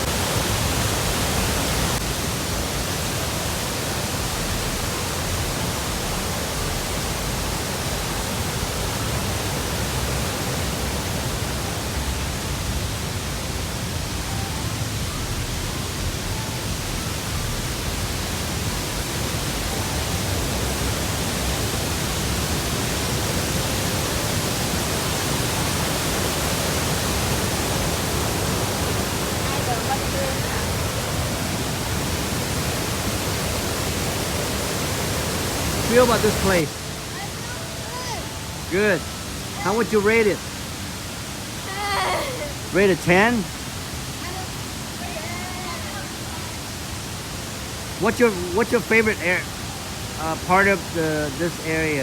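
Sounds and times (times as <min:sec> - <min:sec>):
waterfall roaring: 0:00.0 - 0:52.0.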